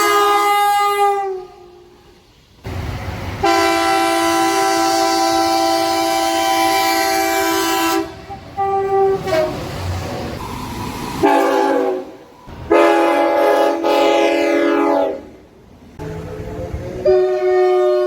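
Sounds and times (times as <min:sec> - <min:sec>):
train air horn chords: 0:00.0 - 0:02.2, 0:03.4 - 0:09.7, 0:10.4 - 0:15.4, 0:16.0 - 0:18.0
passing train rushing: 0:00.0 - 0:18.0.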